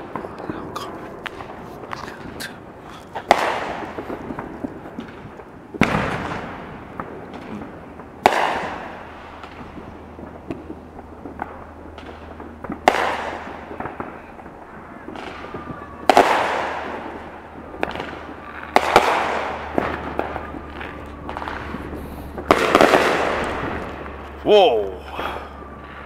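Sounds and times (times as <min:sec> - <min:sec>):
firework pops and crackles: 0:00.0 - 0:24.5
fireworks banging with echo: 0:00.0 - 0:26.0.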